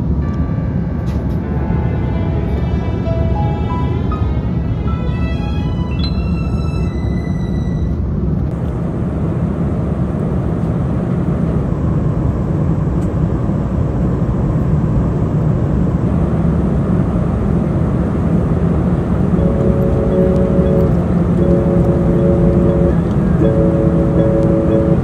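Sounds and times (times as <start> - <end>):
airliner cabin engine drone: 0.0 - 25.0.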